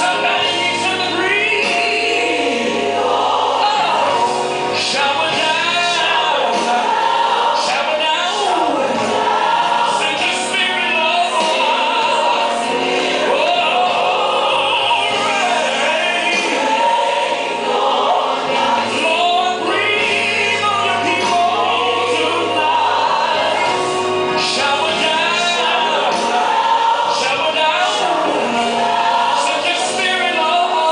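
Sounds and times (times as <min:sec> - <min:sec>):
instrumental accompaniment: 0:00.0 - 0:30.9
voices singing with vibrato: 0:00.0 - 0:30.9.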